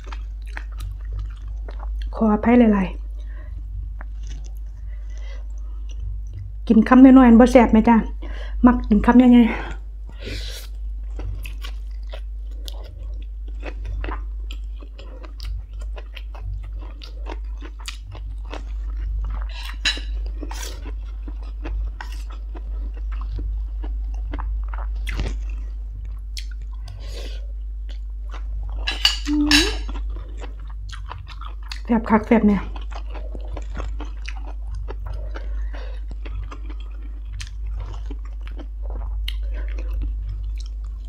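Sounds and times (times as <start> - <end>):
person chewing crunchy food: 0.0 - 2.2, 3.0 - 6.7, 9.7 - 41.0
steady low hum: 0.0 - 41.0.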